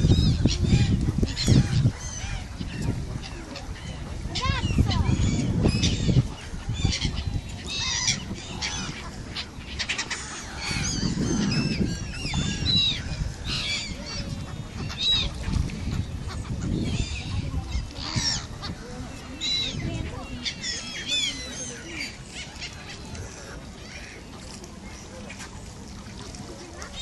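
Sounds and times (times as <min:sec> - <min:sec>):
gulls calling: 0:00.0 - 0:27.0.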